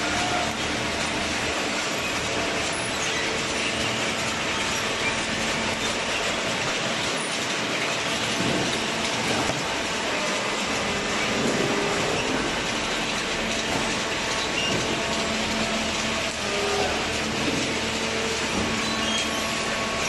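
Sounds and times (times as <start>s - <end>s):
baler machine running: 0.0s - 20.0s.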